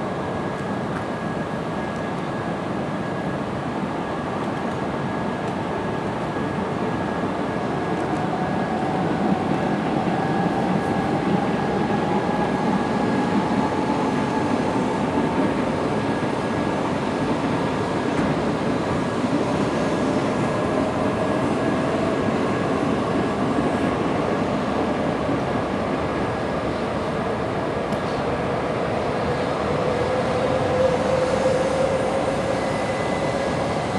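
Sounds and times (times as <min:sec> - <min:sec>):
train equipment hum and hiss: 0:00.0 - 0:33.9.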